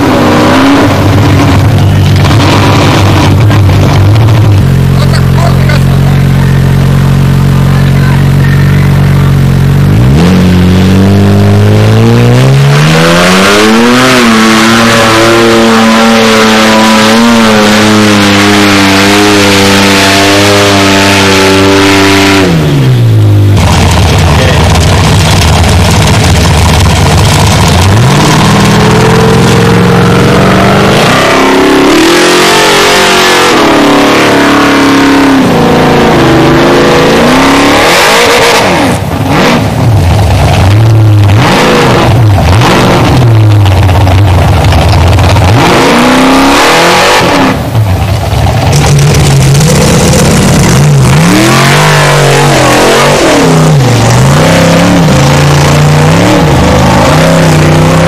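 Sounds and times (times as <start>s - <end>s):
buggy engine revving hard: 0.0s - 58.0s.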